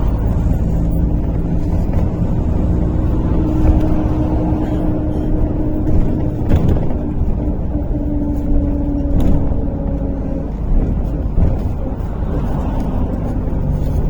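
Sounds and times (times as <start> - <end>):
bus engine and road rumble: 0.0 - 14.0
faint rattles: 0.0 - 14.0
steady droning tone: 0.0 - 14.0.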